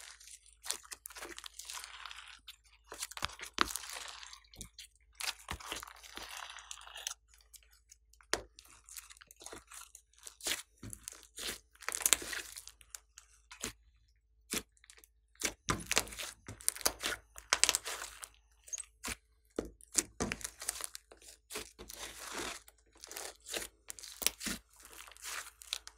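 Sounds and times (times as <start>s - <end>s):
slime squelching and popping: 0.0s - 13.9s, 14.5s - 25.9s.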